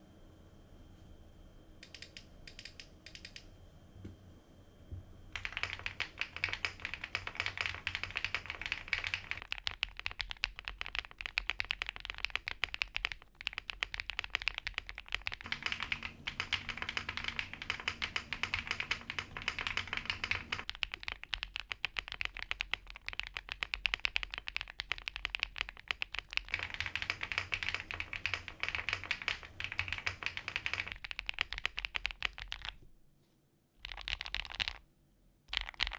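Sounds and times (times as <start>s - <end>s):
mechanical keyboard typing: 1.8s - 3.5s, 5.4s - 32.8s, 33.8s - 34.8s, 35.5s - 35.9s.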